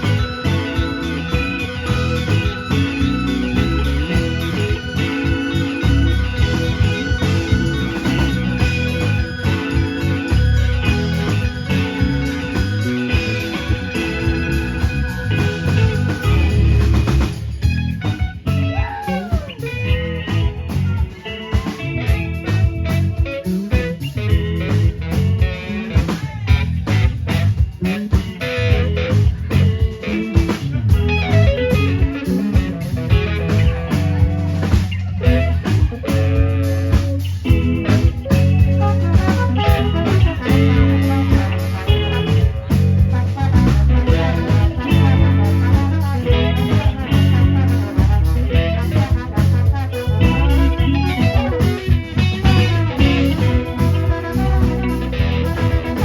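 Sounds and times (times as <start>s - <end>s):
drum kit: 0.0s - 56.0s
guitar melody: 0.0s - 56.0s
live band playing: 0.0s - 56.0s.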